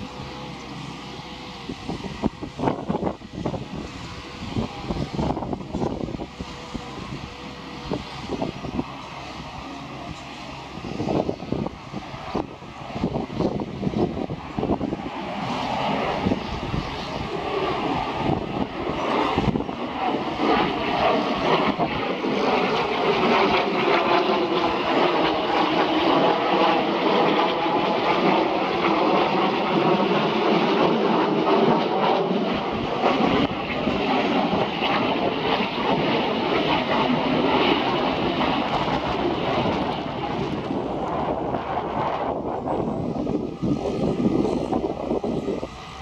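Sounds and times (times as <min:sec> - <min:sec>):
jet aircraft roar overhead: 0:00.0 - 0:46.0
wind buffeting microphone: 0:00.0 - 0:46.0.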